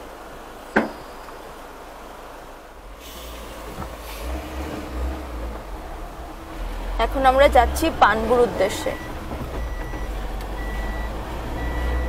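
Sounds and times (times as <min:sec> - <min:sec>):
low vehicle engine rumble: 0:00.0 - 0:12.0.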